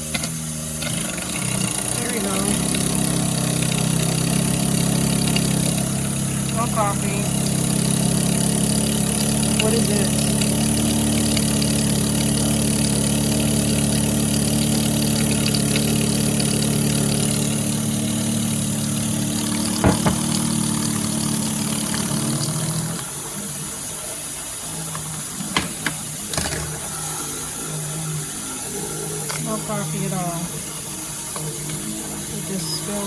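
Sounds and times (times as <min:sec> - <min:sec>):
coffee maker pump humming: 0:00.0 - 0:33.0.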